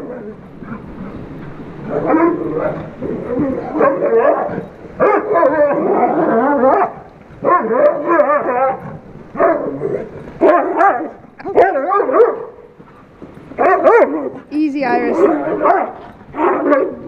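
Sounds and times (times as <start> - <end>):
dogs barking: 0.0 - 17.0
dogs play growling: 0.0 - 17.0.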